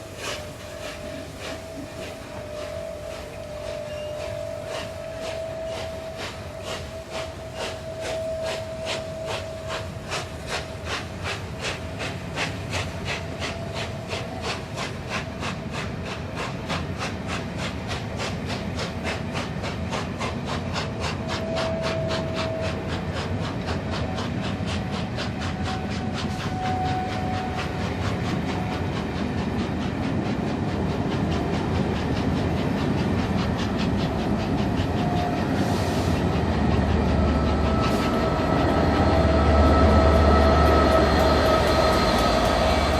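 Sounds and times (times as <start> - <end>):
steam locomotive chuffing: 0.0 - 42.9.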